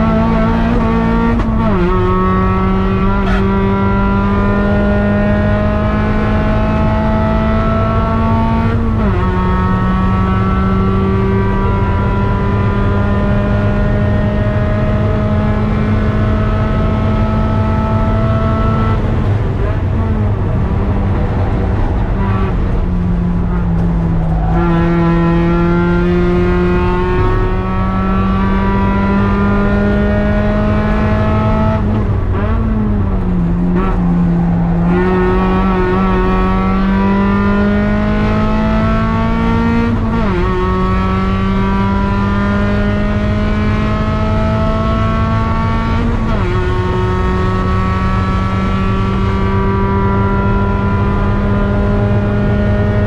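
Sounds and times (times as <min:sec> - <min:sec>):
car engine accelerating: 0:00.0 - 0:53.0
road noise: 0:00.0 - 0:53.0
wind noise: 0:04.3 - 0:53.0.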